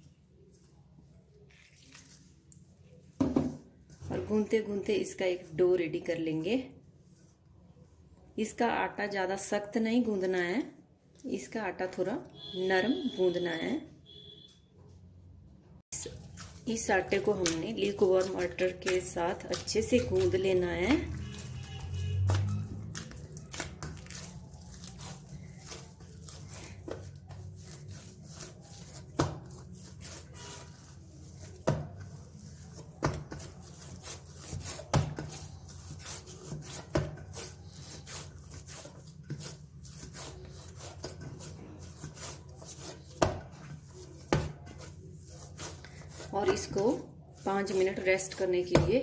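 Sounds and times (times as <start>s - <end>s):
hands kneading dough: 0.0s - 7.6s, 15.9s - 49.0s.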